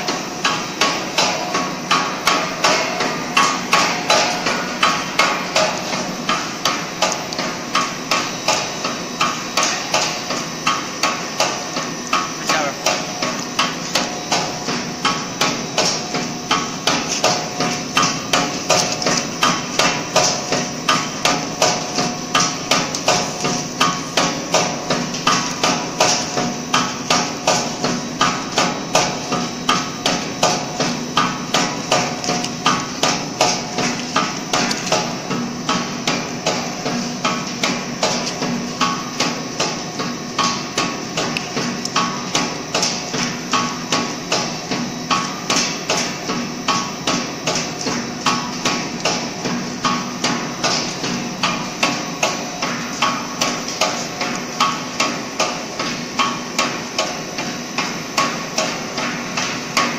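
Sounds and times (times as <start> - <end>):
steady machine noise: 0.0 - 59.9.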